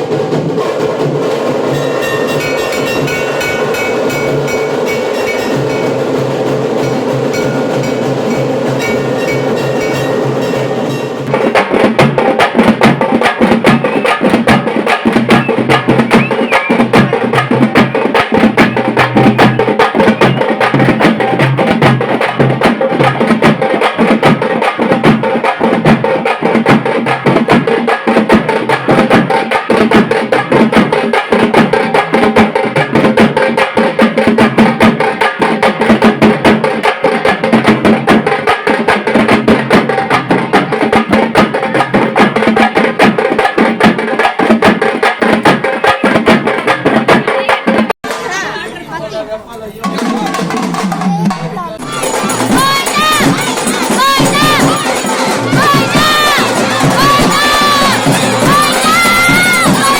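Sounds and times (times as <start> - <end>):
fast percussion music: 0.0 - 59.9.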